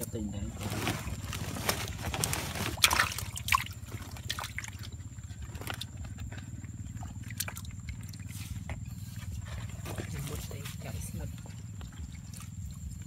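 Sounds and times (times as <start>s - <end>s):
muddy water splashing: 0.5s - 13.0s.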